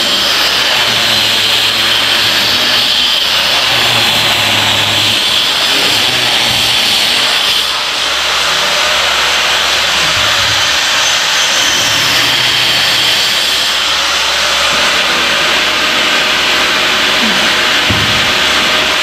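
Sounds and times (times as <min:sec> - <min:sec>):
angle grinder cutting concrete block: 0:00.0 - 0:19.0.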